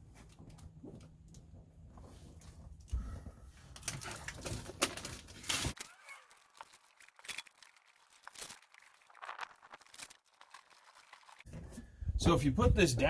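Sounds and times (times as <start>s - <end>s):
mat crinkling and crackling: 0.0s - 11.9s.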